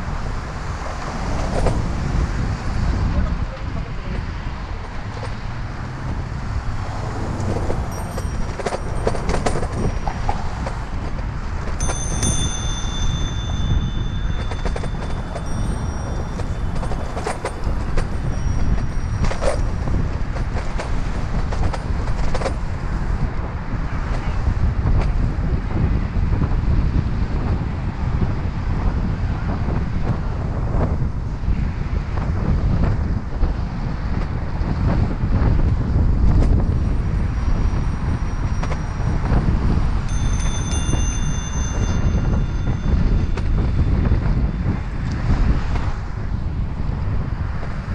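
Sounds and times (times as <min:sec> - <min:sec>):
road traffic rumble: 0:00.0 - 0:47.9
wind rushing over microphone: 0:00.0 - 0:47.9.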